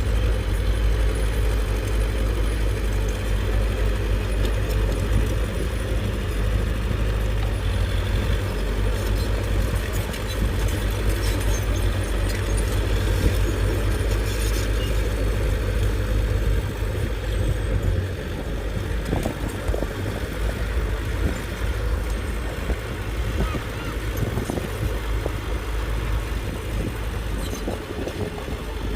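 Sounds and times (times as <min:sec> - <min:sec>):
heavy diesel engine rumbling: 0:00.0 - 0:28.9.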